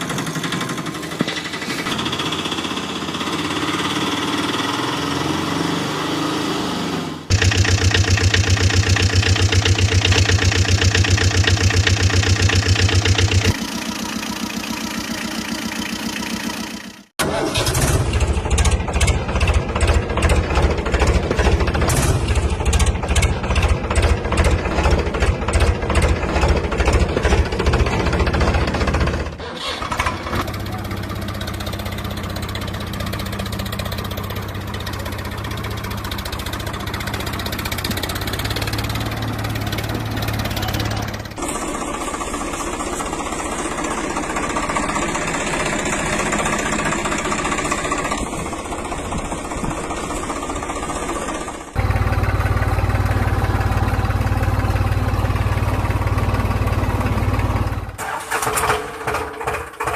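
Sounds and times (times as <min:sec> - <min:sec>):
tractor engine idling: 0:00.0 - 0:04.9, 0:07.3 - 0:59.9.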